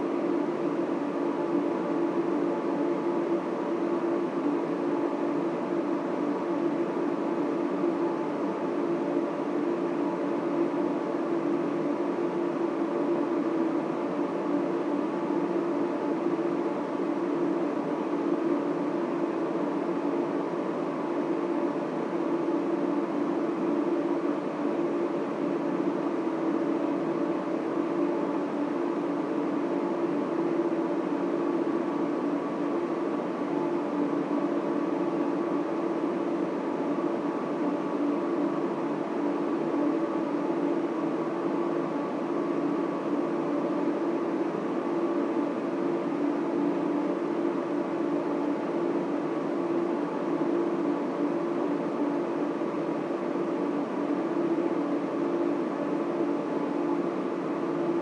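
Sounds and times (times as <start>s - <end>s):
server and cooling fans droning: 0.0s - 58.0s
steady multi-tone hum: 0.0s - 58.0s.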